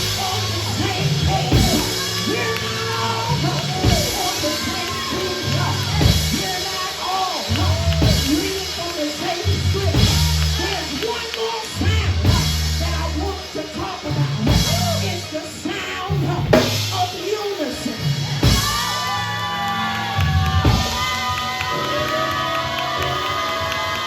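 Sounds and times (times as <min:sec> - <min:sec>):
bass and drum kit: 0:00.0 - 0:24.0
person singing or shouting: 0:00.0 - 0:24.0.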